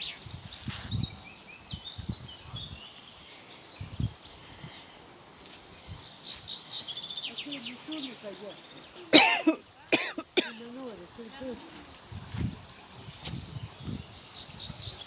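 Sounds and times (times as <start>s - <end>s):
small birds singing and chirping: 0.0s - 15.0s.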